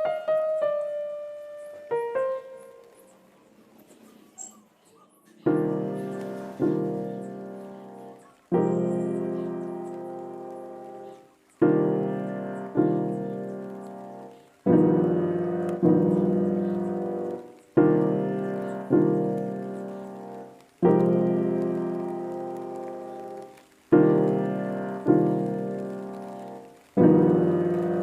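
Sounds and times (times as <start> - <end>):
slow piano chords: 0.0 - 4.1, 5.3 - 28.0.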